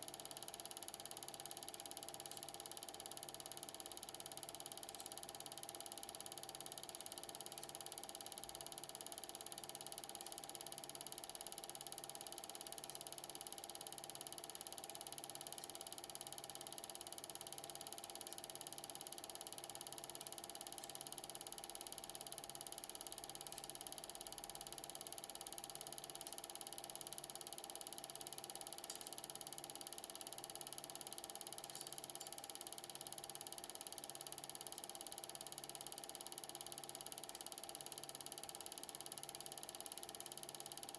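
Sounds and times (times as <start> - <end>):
film projector whirring and clattering: 0.0 - 40.9.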